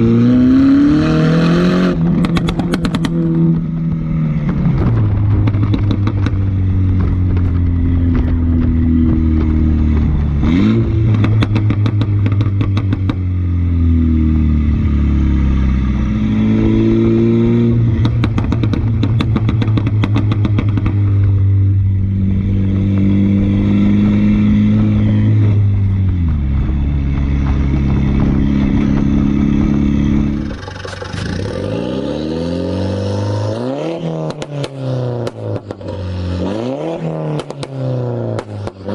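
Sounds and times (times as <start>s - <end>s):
car engine accelerating: 0.0s - 38.9s
exhaust crackles and pops: 1.9s - 14.0s, 17.6s - 32.5s, 33.1s - 38.9s.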